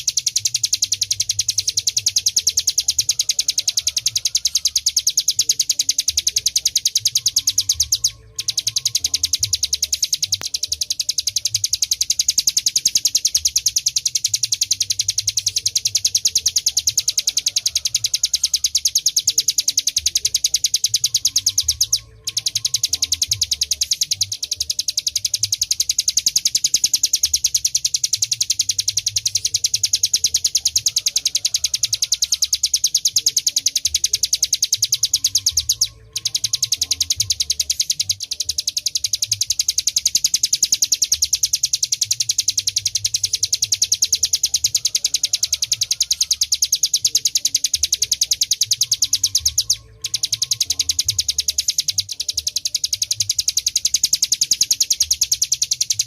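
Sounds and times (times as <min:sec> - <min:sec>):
bird singing rapid high notes: 0:00.0 - 0:56.0.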